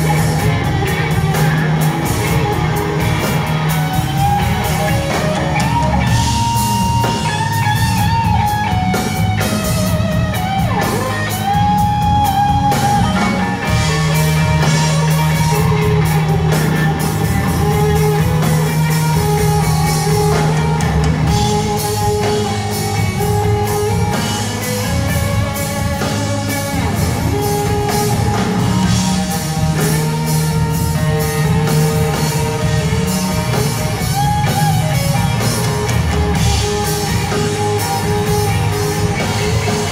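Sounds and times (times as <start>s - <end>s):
electric guitar sliding notes: 0.0s - 39.9s
live rock band playing: 0.0s - 39.9s.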